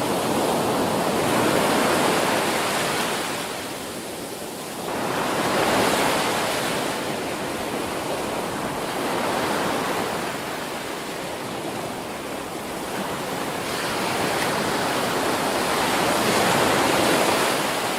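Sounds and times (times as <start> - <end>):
waves breaking on beach: 0.0 - 17.9.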